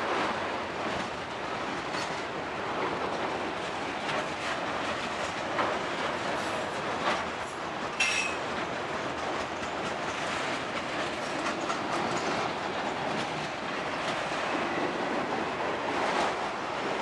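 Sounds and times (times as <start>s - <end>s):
freight train wheels clattering: 0.9s - 17.0s.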